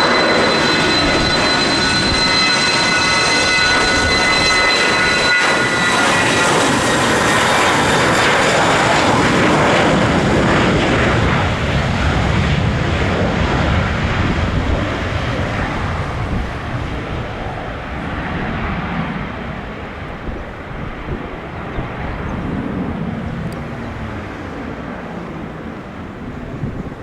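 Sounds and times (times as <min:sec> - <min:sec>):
jet engine whine: 0:00.0 - 0:27.0
jet roar: 0:00.0 - 0:27.0.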